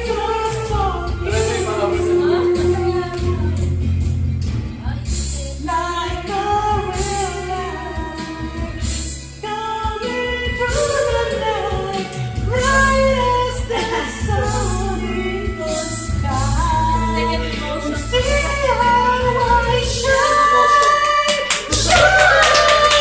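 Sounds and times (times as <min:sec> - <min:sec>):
man singing into microphone: 0:00.0 - 0:03.8, 0:06.0 - 0:21.9
music backing track: 0:00.0 - 0:23.0.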